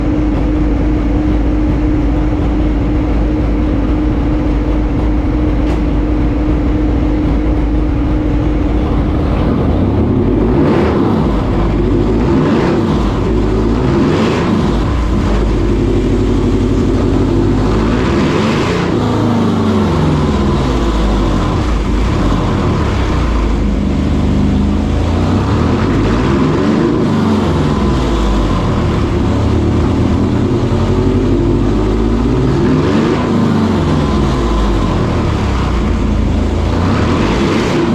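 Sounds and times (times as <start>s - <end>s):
loud cooling fans blowing: 0.0s - 37.9s
motorcycle engine revving: 0.0s - 37.9s.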